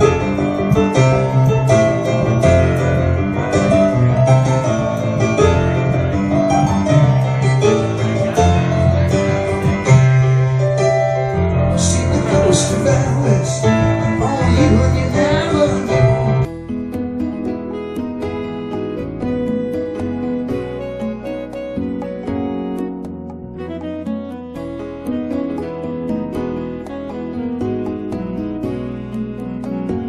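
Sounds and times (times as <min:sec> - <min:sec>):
piano-led instrumental music: 0:00.0 - 0:30.0
plucked guitar: 0:00.0 - 0:30.0.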